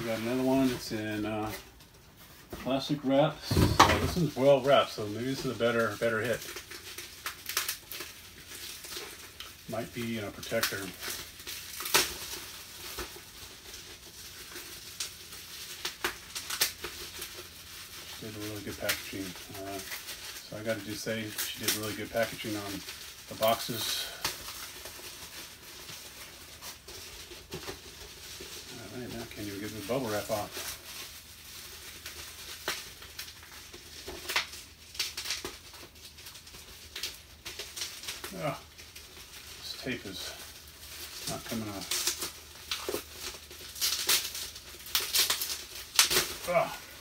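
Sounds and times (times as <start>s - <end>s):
plastic wrap crinkling: 0.0s - 47.0s.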